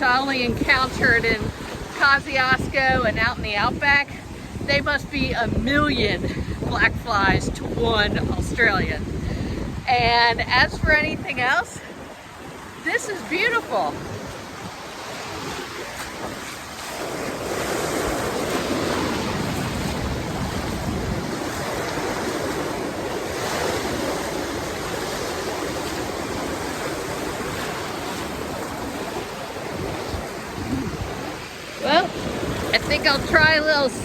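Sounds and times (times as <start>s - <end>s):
ocean surf washing in: 0.0s - 34.0s.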